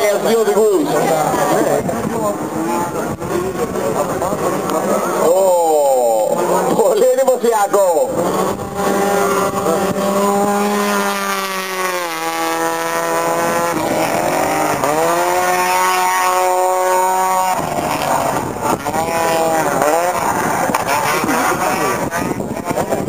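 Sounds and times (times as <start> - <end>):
car engines at high revs: 0.0 - 23.0.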